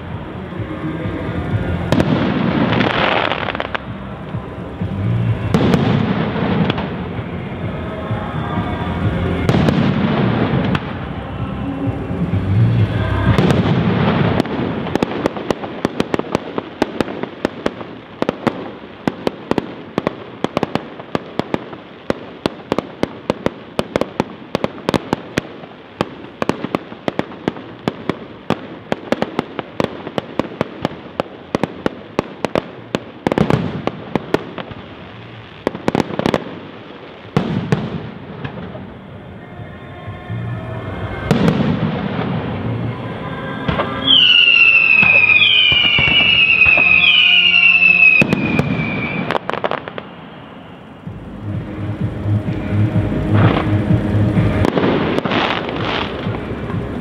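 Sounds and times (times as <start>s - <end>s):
fireworks crackling pops: 0.0s - 39.7s, 40.3s - 57.0s.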